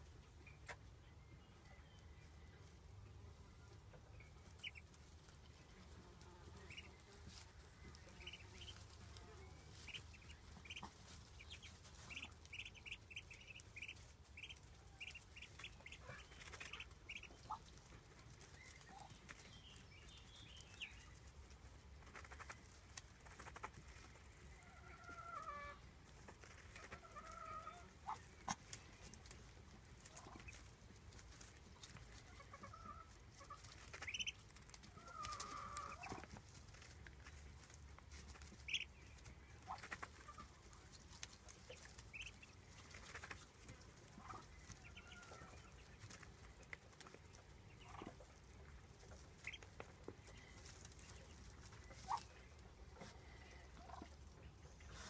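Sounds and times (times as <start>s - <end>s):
soft duckling calls: 3.8s - 55.0s.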